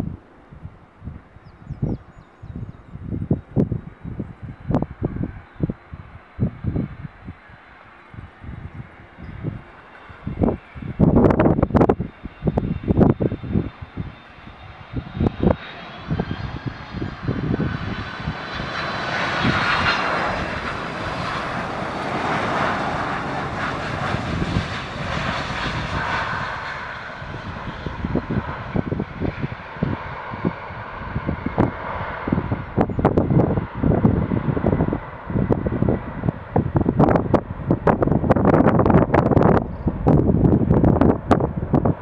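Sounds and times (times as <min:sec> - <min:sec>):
wind buffeting microphone: 0:00.0 - 0:42.0
jet engines whining: 0:03.0 - 0:42.0.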